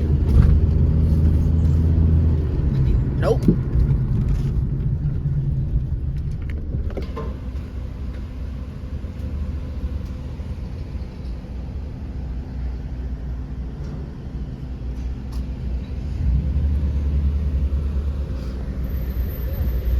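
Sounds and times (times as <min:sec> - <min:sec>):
car road and engine rumble: 0:00.0 - 0:19.9.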